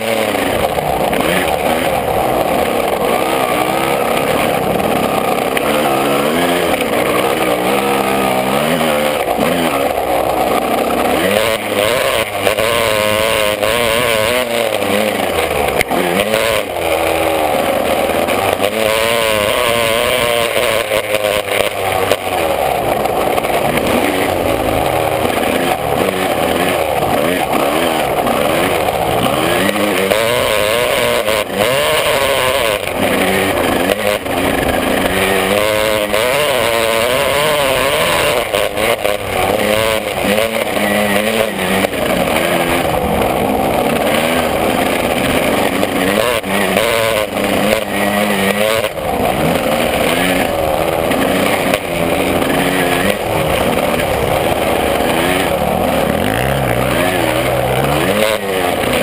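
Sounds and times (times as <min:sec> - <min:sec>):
two-stroke motocross bike engine revving: 0:00.0 - 0:59.0.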